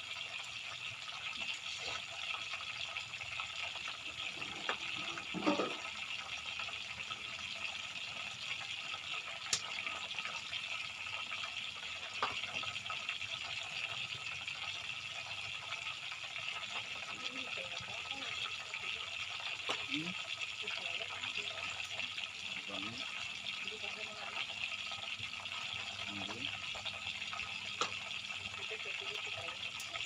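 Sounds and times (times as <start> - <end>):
tofu sizzling in hot oil: 0.0 - 30.0
oil popping: 1.3 - 30.0.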